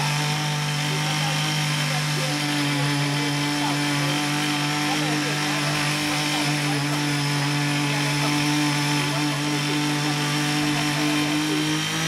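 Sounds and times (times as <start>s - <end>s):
garden tiller engine running: 0.0s - 12.0s
rotary blades tilling soil: 0.0s - 12.0s.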